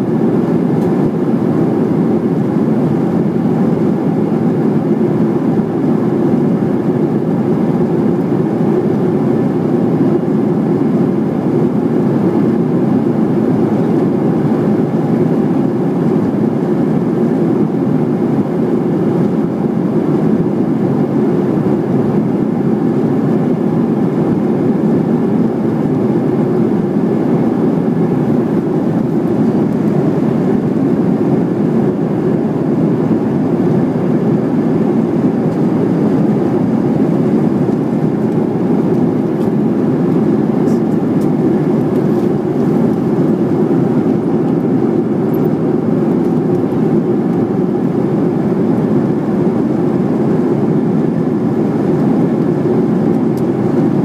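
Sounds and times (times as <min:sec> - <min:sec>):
airflow over fuselage: 0:00.0 - 0:54.0
airplane cabin jet engine rumble: 0:00.0 - 0:54.0.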